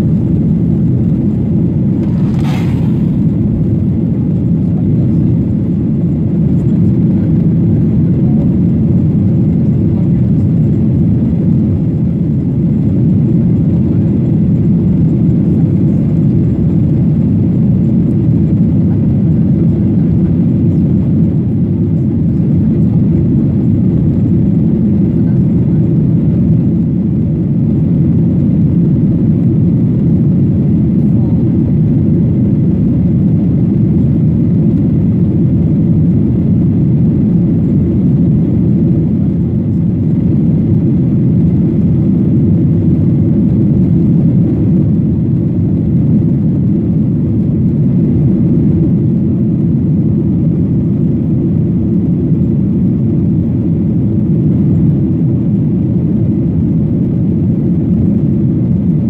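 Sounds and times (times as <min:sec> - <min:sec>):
jet engines rumbling in cabin: 0:00.0 - 0:59.0.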